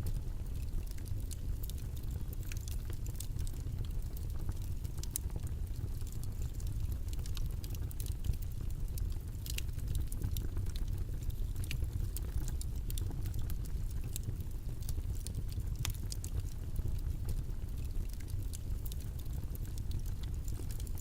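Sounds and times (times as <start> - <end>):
small irregular clicks and taps: 0.5 - 21.0.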